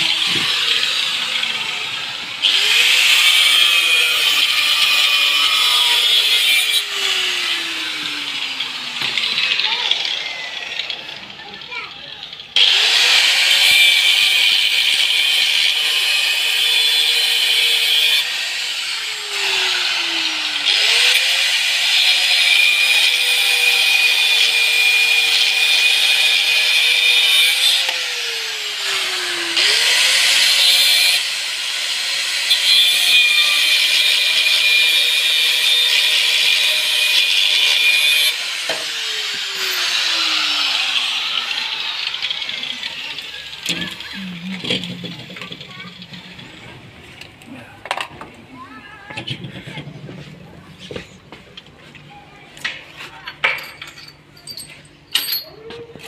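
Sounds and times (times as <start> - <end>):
angle grinder cutting metal: 0.0 - 48.0.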